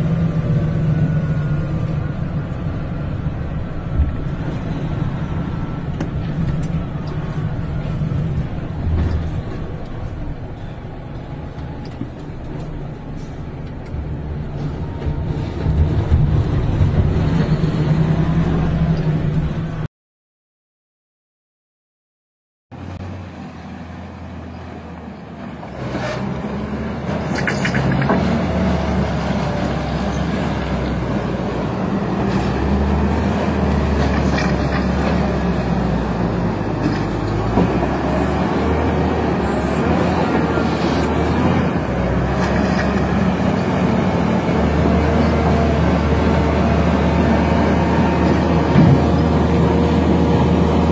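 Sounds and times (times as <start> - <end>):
wheel loader diesel engine: 0.0 - 19.9, 22.7 - 50.9.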